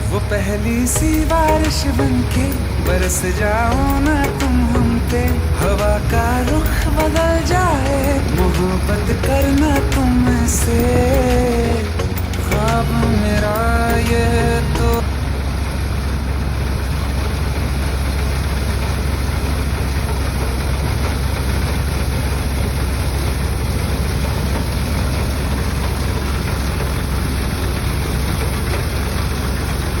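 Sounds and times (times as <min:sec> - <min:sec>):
harvester engine humming: 0:00.0 - 0:30.0
rush of mechanical noise: 0:00.0 - 0:30.0.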